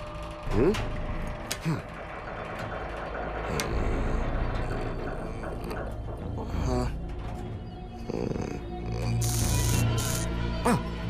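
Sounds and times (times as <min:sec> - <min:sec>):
plumbing creaking and knocking: 0:00.0 - 0:10.9
low rumble: 0:00.0 - 0:11.0
rising squeaks: 0:00.0 - 0:11.0.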